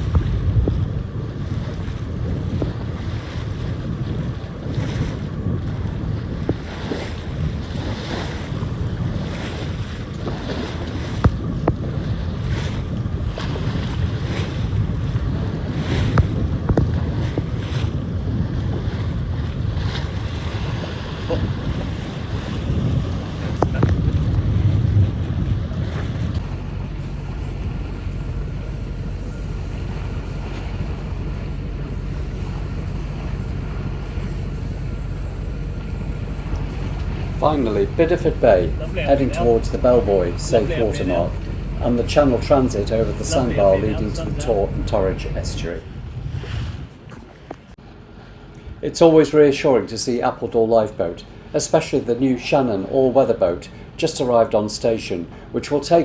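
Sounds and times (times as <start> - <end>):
wind buffeting microphone: 0.0 - 54.4
boat engine droning: 0.0 - 56.0
water rushing past hull: 0.0 - 56.0.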